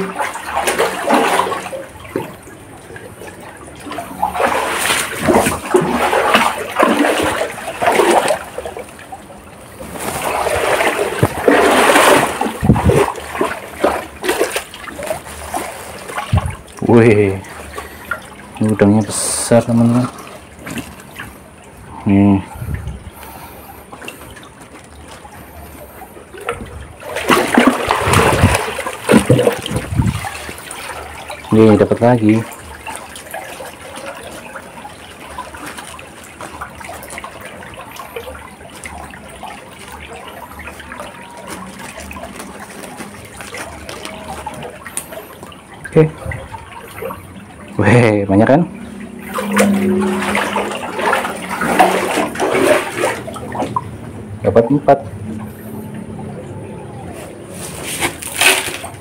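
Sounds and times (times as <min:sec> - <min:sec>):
faint water trickle: 0:00.0 - 0:57.6
river water splashing: 0:00.0 - 0:59.0.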